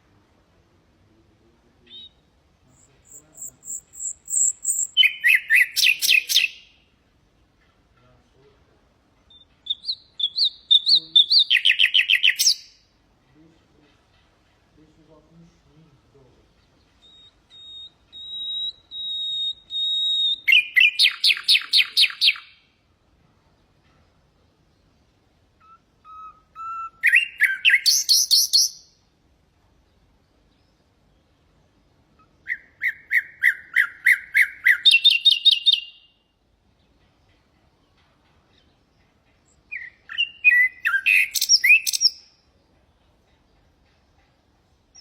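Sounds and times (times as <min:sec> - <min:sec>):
nightingale singing: 0:01.8 - 0:07.0, 0:09.2 - 0:14.4, 0:16.0 - 0:22.8, 0:24.4 - 0:29.2, 0:29.8 - 0:45.0.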